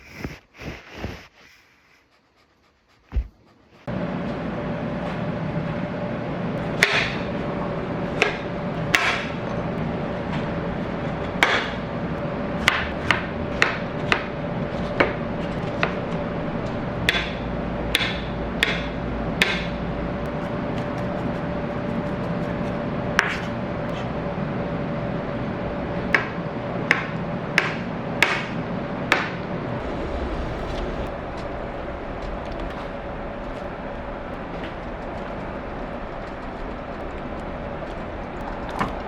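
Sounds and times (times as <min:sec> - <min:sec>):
steady background hum: 0:03.1 - 0:39.0.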